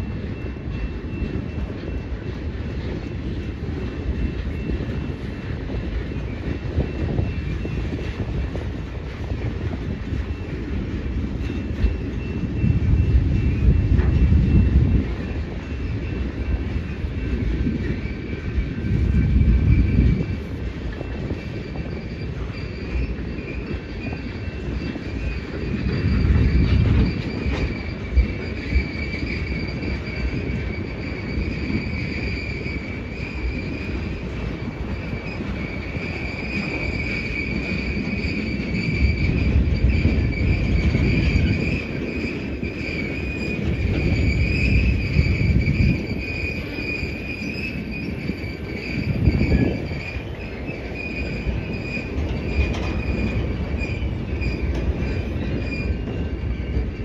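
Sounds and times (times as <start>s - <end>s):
freight train rumbling past: 0.0s - 57.0s
train wheels knocking: 0.0s - 57.0s.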